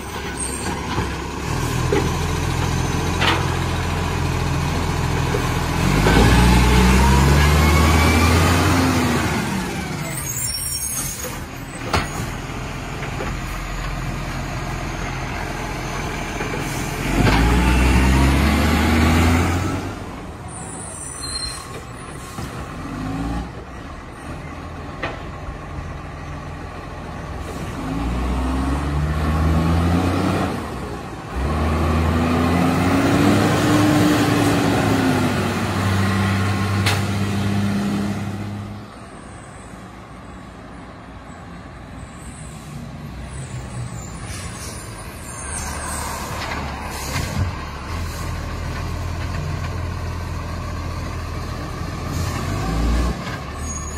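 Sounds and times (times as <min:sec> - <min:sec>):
diesel truck engine revving: 0:00.0 - 0:10.7, 0:12.3 - 0:20.6, 0:22.2 - 0:24.9, 0:25.5 - 0:39.0, 0:42.9 - 0:53.9.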